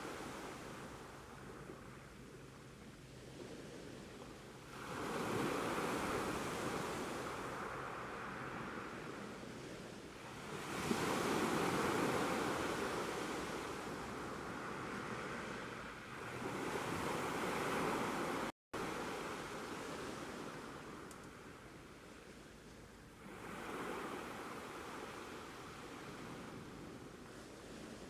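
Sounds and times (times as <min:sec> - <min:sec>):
sea waves breaking on beach: 0:00.0 - 0:22.3, 0:23.1 - 0:28.0.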